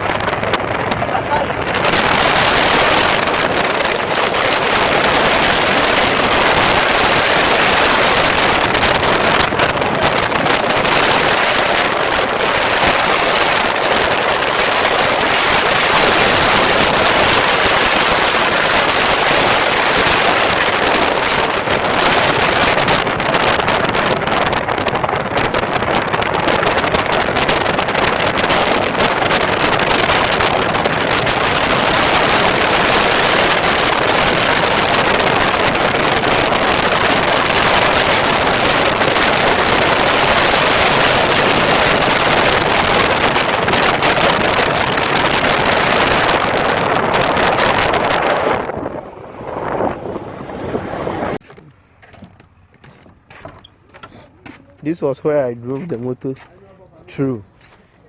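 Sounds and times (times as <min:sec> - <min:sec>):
wind on microphone: 0:00.0 - 0:51.4
motorcycle engine: 0:00.0 - 0:54.9.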